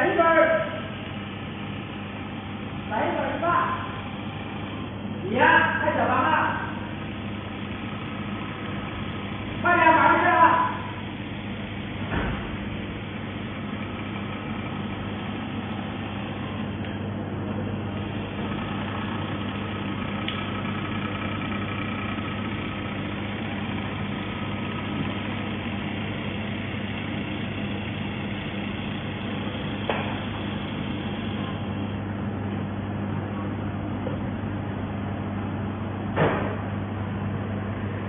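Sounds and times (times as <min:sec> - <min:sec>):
electrical machine hum: 0:00.0 - 0:38.0.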